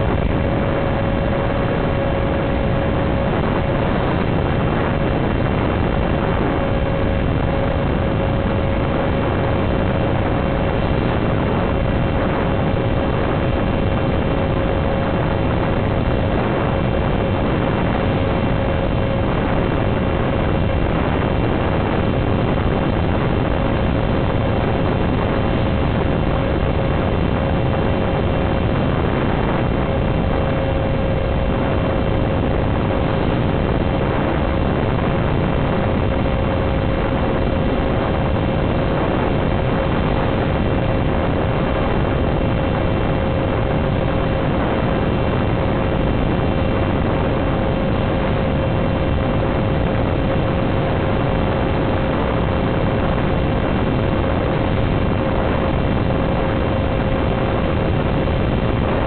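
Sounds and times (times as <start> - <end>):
constant hum: 0.0 - 59.0
steady rushing noise: 0.0 - 59.0.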